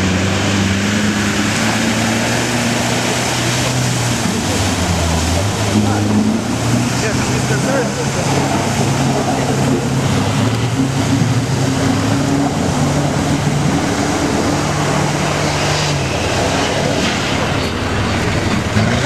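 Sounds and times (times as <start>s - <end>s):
vehicle engine working hard: 0.0s - 19.0s
water splashing from wheels: 0.0s - 19.0s.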